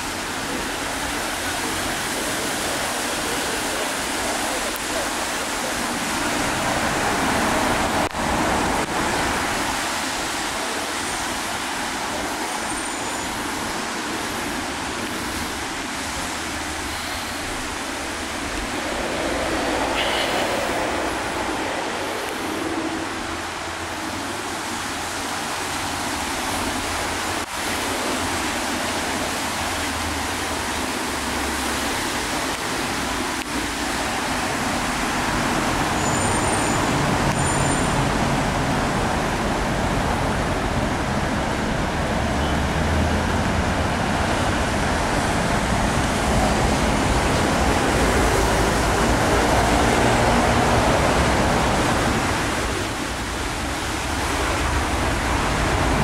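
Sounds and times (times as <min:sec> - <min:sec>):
road traffic rush: 0:00.0 - 0:56.0.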